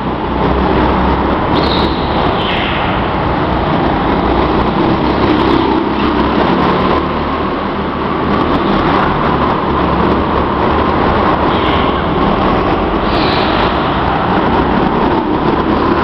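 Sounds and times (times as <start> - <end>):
go-kart engines: 0.0 - 16.0.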